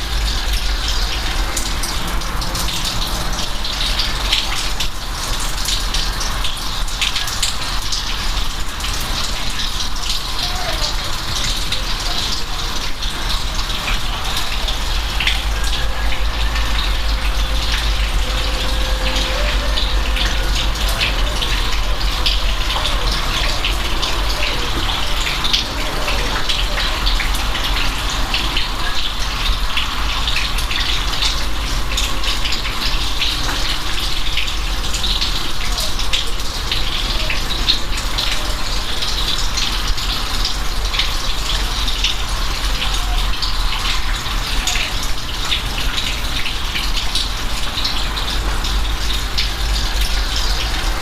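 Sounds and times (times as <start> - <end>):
rain falling: 0.0 - 51.0
raindrops ticking: 0.0 - 51.0.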